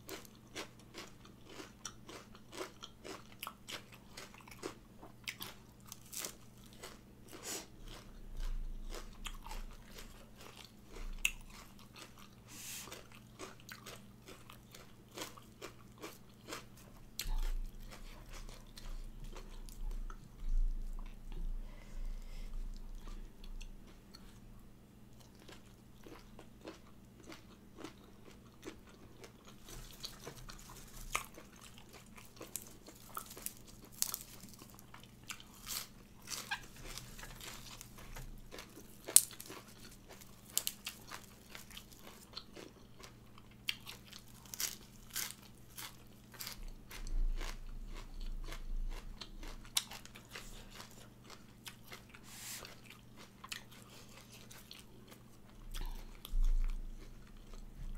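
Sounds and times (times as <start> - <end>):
person chewing crunchy salad: 0.0 - 57.9.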